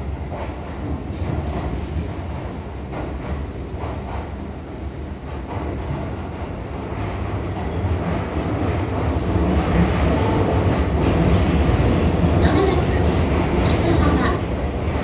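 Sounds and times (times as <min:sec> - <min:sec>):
train wheels rumbling in tunnel: 0:00.0 - 0:15.0.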